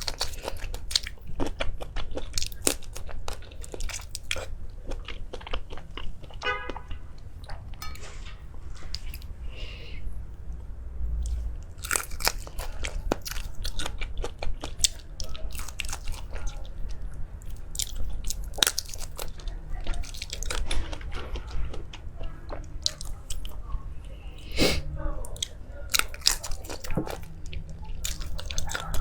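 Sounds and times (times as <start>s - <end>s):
crunchy food chewing: 0.0s - 7.8s, 11.2s - 29.0s.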